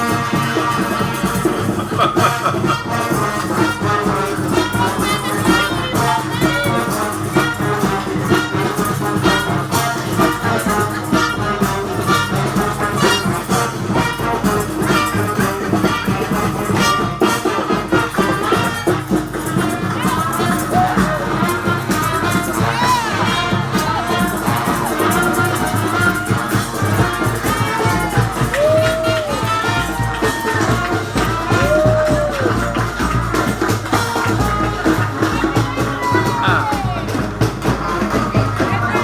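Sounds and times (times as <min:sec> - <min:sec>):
brass horns playing: 0:00.0 - 0:39.0
steady drumbeat: 0:00.0 - 0:39.0.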